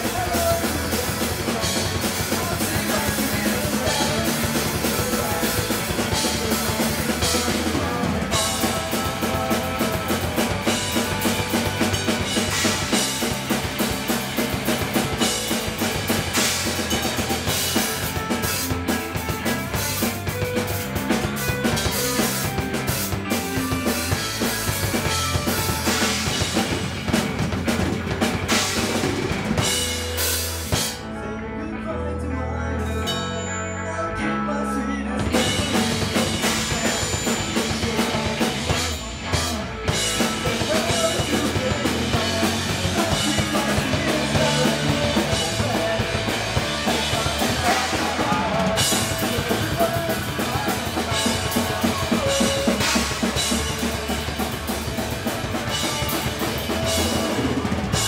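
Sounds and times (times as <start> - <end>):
drum kit: 0.0 - 31.2, 35.2 - 58.0
bass guitar: 0.0 - 58.0
electric guitar: 0.0 - 58.0.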